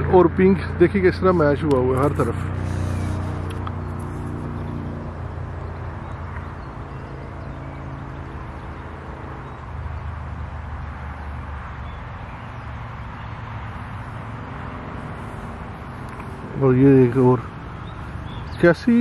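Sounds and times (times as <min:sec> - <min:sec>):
rushing background noise: 0:00.0 - 0:19.0.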